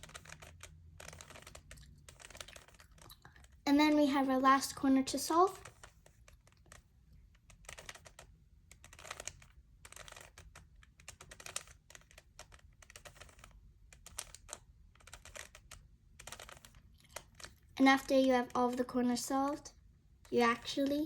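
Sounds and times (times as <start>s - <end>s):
puzzle cube layers clicking: 0.0s - 3.6s, 5.1s - 19.6s.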